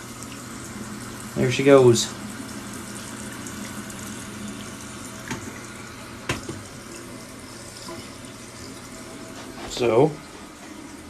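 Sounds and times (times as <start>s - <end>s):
toilet tank refilling hiss: 0.0s - 11.0s.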